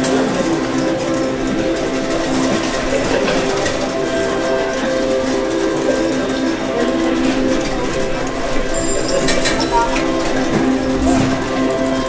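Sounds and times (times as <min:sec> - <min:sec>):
slot machine electronic jingles: 0:00.4 - 0:12.0.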